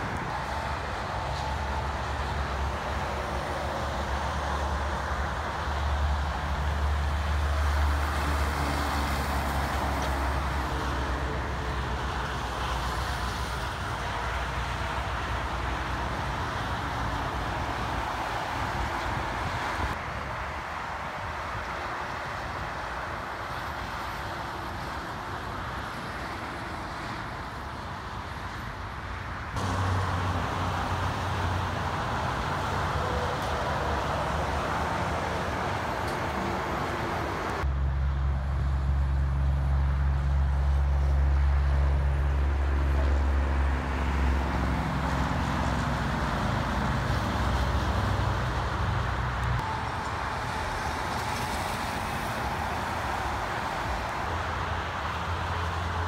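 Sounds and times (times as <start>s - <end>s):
highway traffic rush: 0.0s - 56.0s
trucks passing: 0.0s - 56.0s.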